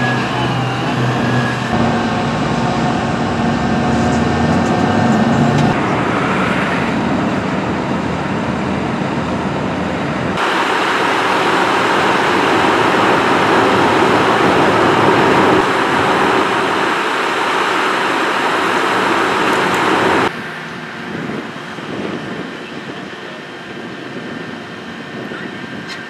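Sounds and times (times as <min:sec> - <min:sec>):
truck engine running: 0:00.0 - 0:25.8
road traffic: 0:00.0 - 0:26.0.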